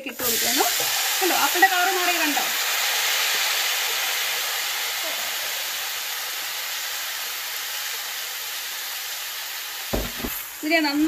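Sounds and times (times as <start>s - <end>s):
apple pieces sizzling in oil: 0.0s - 11.0s.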